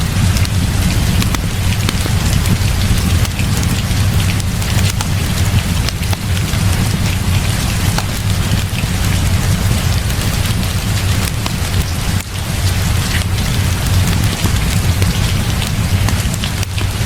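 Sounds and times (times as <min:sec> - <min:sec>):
heavy rain falling: 0:00.0 - 0:17.0
sharp ticks: 0:00.0 - 0:17.0.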